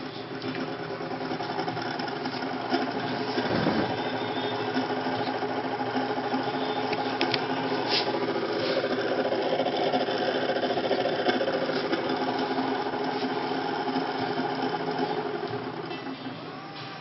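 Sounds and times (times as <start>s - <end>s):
electric door opener motor humming: 0.0s - 17.0s.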